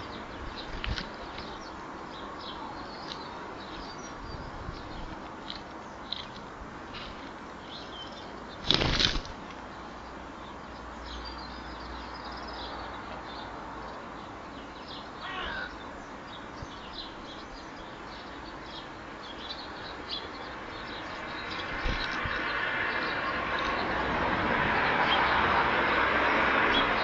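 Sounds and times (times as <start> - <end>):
sparrows chirping: 0.0 - 27.0.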